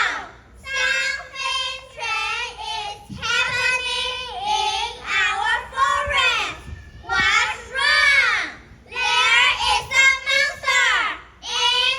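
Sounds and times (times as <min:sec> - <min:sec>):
child singing: 0:00.0 - 0:11.9.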